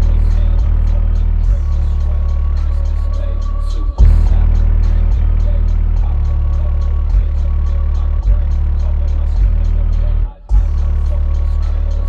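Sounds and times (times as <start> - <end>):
deep bass from subwoofer: 0.0 - 12.0
light ticking beat: 0.0 - 12.0.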